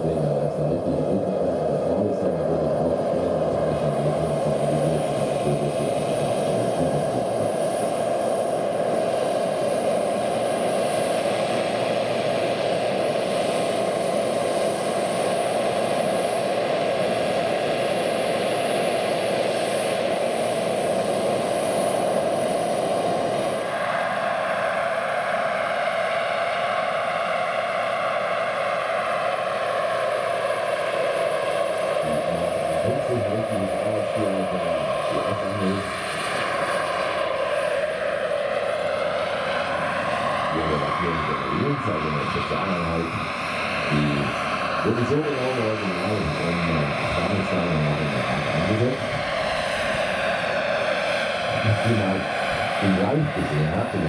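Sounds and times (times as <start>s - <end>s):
helicopter rotor noise: 0.0s - 54.0s
turbine hiss: 0.0s - 54.0s.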